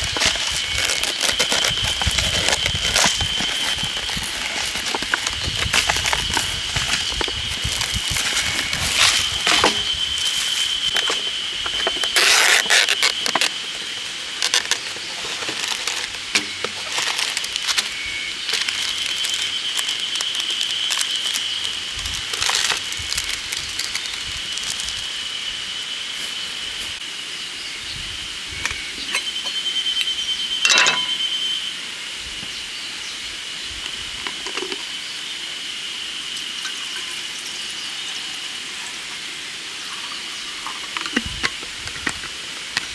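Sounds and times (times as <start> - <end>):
cicadas shrilling: 0.0 - 42.9.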